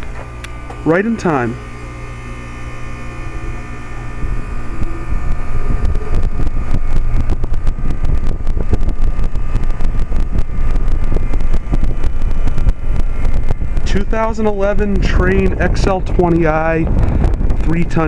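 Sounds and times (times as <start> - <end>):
heat pump fan rushing air: 0.0 - 18.0
low hum: 0.0 - 18.0
wind buffeting microphone: 0.0 - 18.0.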